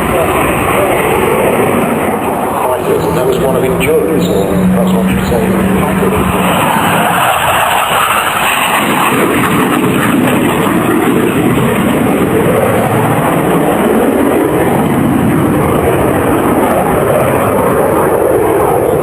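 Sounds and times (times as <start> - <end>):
aircraft engine flying past: 0.0 - 19.0.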